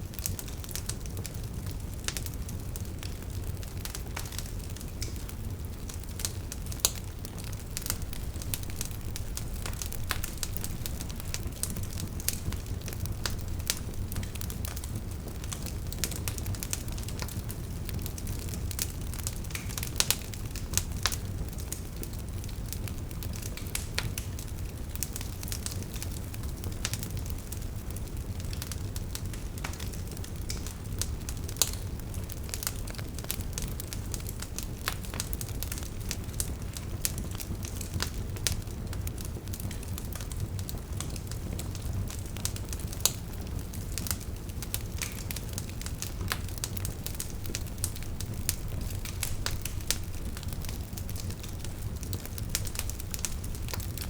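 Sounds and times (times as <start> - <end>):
low rumble of flames: 0.0 - 54.0
logs crackling and popping: 0.1 - 54.0.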